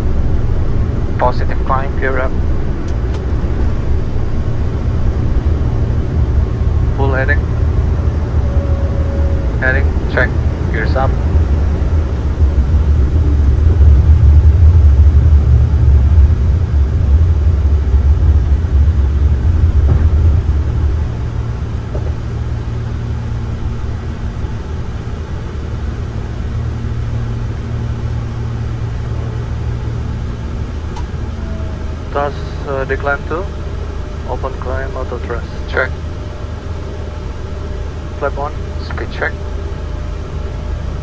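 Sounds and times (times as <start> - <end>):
aircraft engines and airflow rumble: 0.0 - 41.0.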